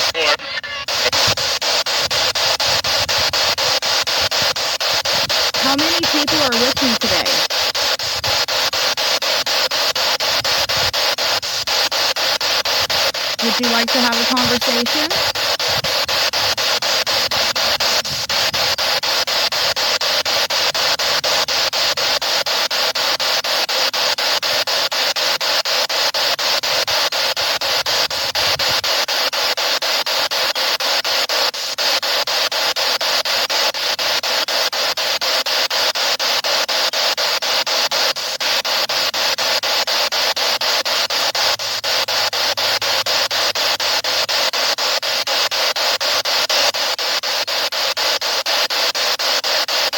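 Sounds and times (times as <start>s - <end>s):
choppy radio static: 0.0s - 49.9s.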